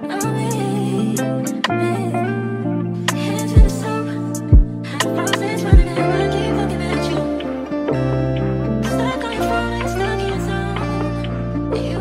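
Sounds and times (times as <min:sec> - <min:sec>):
music with sliding bass notes: 0:00.3 - 0:12.0.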